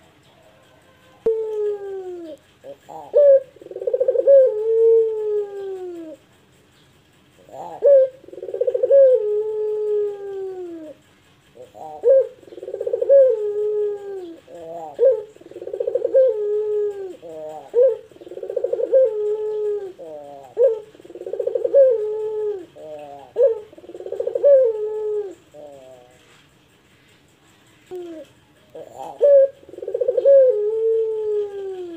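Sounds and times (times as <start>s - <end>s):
dove cooing: 0.0s - 6.4s, 7.1s - 31.9s.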